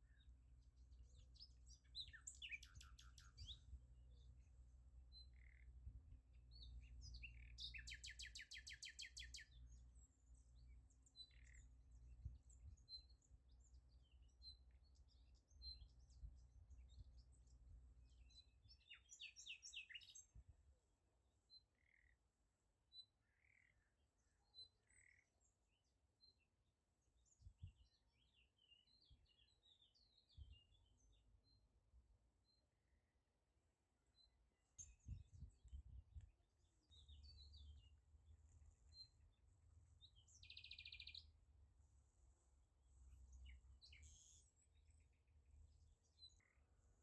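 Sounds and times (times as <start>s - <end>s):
faint bird chirps and trills: 0.0s - 47.0s.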